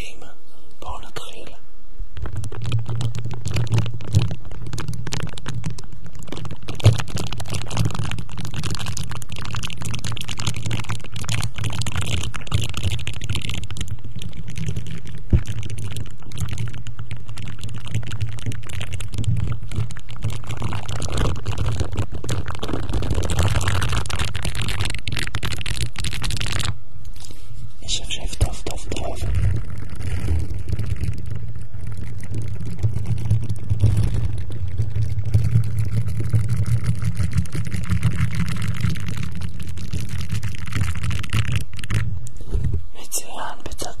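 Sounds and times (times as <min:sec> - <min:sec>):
objects scratching a microphone: 0:02.2 - 0:44.0.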